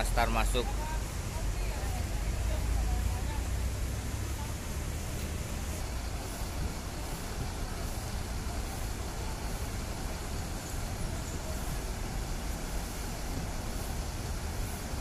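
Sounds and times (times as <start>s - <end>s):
bus engines droning: 0.0s - 15.0s.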